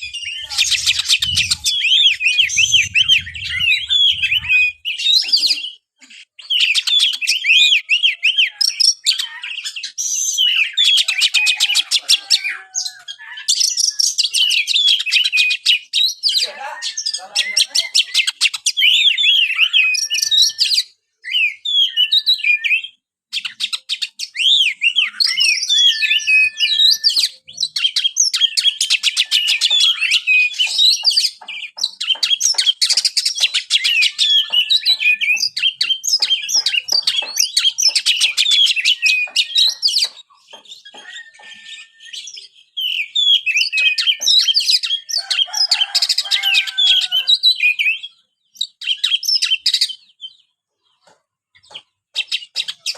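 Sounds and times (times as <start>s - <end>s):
bird singing chirps and whistles: 0.0s - 50.4s.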